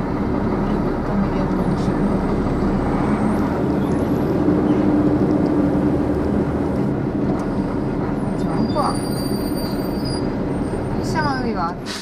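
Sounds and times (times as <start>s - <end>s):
truck diesel engine running: 0.0s - 11.9s.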